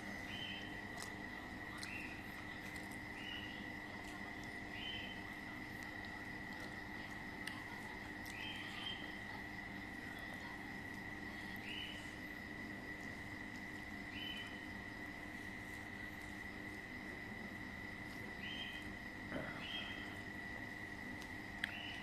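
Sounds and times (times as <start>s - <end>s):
insect chirp: 0.0s - 22.0s
insects droning: 0.0s - 22.0s.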